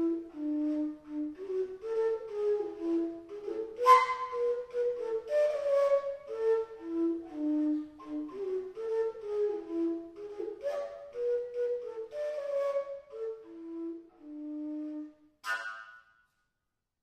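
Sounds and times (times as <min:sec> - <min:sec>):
overtone flute melody: 0:00.0 - 0:16.2.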